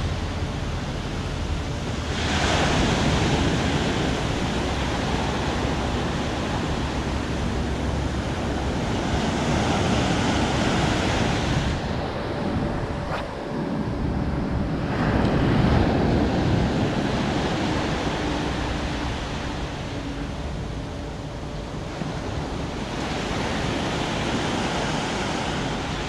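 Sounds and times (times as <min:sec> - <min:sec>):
ocean surf washing on shore: 0:00.0 - 0:26.0
wind buffeting microphone: 0:00.0 - 0:26.0.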